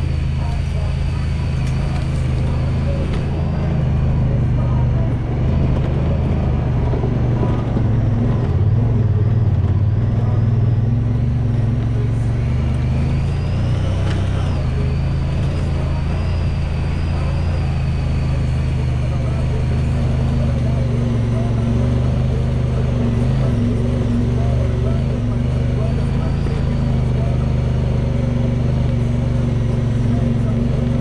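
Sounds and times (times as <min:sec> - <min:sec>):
utility vehicle engine running: 0:00.0 - 0:31.0.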